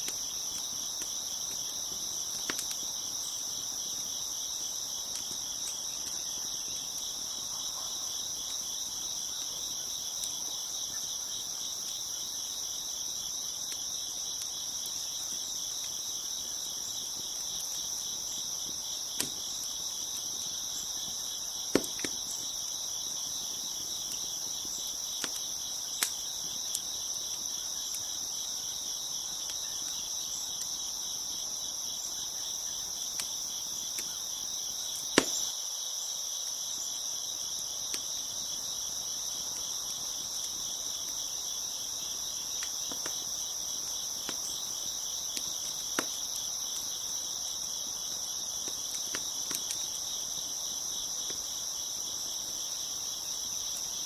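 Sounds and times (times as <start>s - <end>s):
wood fire crackling: 0.0s - 35.5s, 37.3s - 54.0s
crickets chirping: 0.0s - 54.0s.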